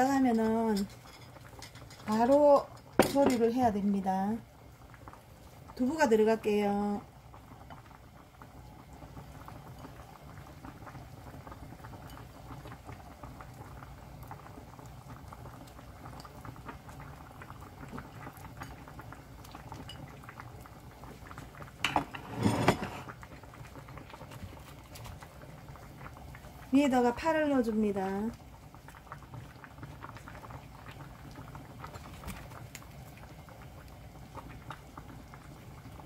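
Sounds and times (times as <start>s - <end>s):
stew bubbling in a pot: 0.0s - 36.0s.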